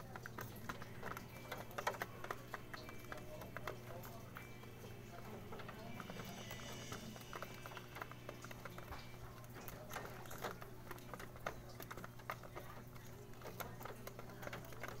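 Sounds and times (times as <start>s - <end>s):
pigeons pecking on plastic tray: 0.0s - 15.0s.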